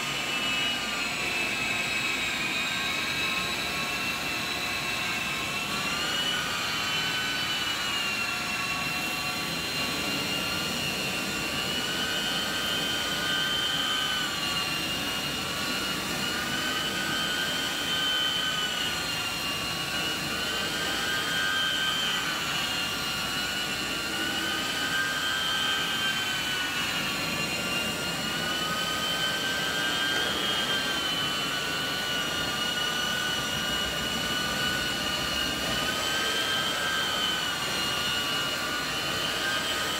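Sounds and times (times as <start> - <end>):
carpet extraction wand whining: 0.0 - 39.9.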